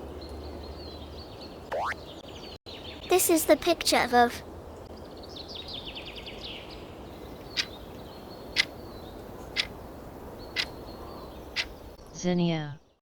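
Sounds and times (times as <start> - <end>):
outdoor ambience: 0.0 - 12.9
bird chirps: 0.2 - 3.6, 4.8 - 12.0.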